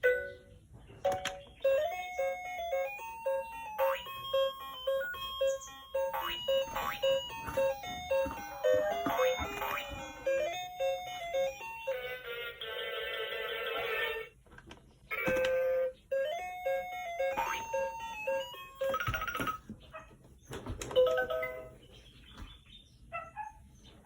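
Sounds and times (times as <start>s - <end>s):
toy electronic beeping melodies: 0.0s - 14.3s, 15.1s - 19.7s, 20.9s - 21.8s.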